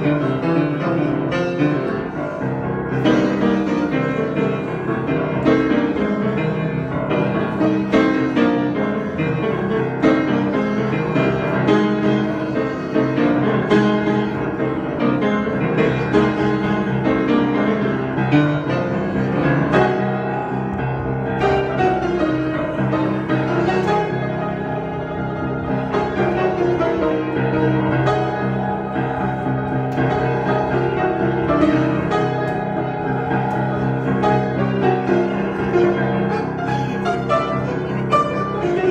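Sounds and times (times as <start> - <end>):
piano improvisation: 0.0 - 38.9.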